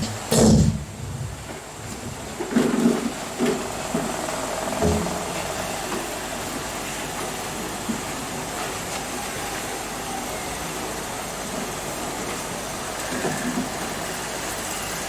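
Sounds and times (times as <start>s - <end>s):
steady background hum and hiss: 0.0s - 15.0s.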